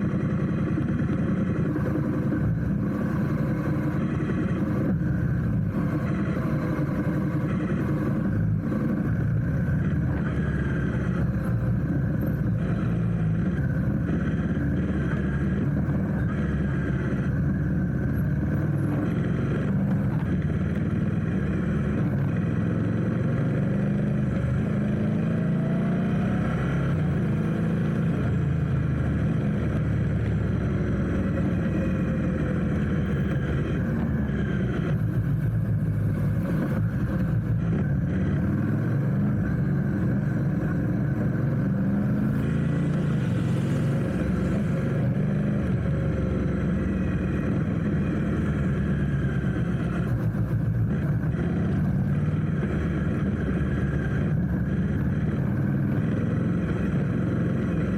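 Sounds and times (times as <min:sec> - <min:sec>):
low wind rumble: 0:00.0 - 0:57.9
motorcycle engine in traffic: 0:00.0 - 0:57.9.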